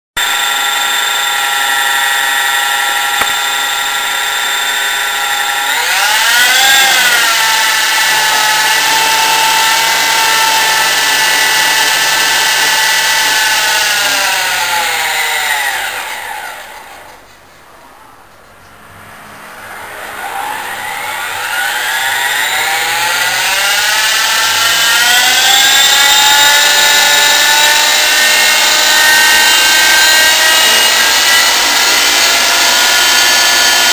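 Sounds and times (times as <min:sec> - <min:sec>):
rc helicopter motor whining: 0:00.2 - 0:17.2, 0:19.6 - 0:33.9.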